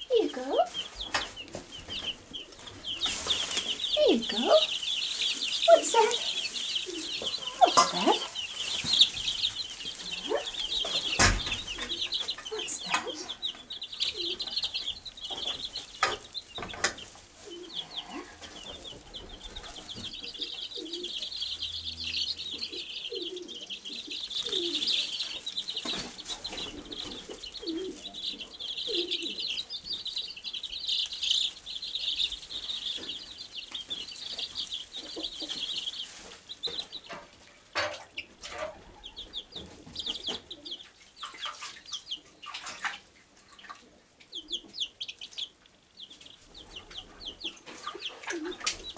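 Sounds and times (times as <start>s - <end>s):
chicks peeping: 0.0s - 48.9s.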